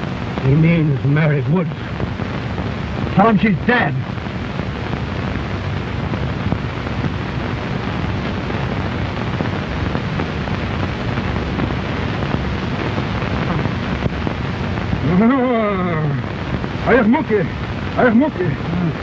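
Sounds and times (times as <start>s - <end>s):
film soundtrack hiss and rumble: 0.0s - 19.0s.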